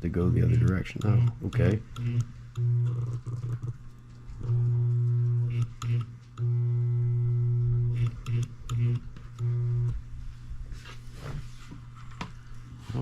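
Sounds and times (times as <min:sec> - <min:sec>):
electromagnet humming: 0:00.0 - 0:13.0.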